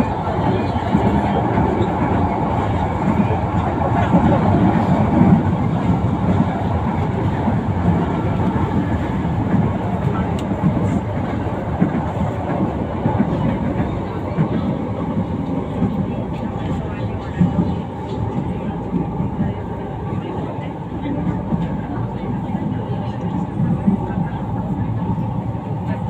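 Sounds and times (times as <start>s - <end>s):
train carriage in motion: 0.0s - 26.0s.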